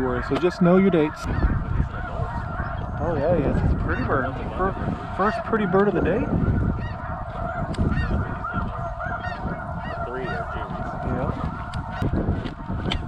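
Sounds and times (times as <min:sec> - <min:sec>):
geese honking: 0:00.0 - 0:13.0
wind rumble on microphone: 0:00.0 - 0:13.0.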